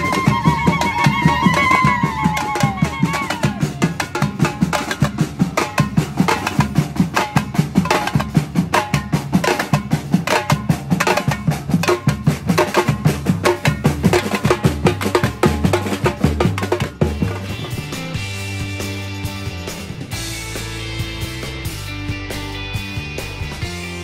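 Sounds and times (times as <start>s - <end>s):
drum troupe playing: 0.0s - 24.0s.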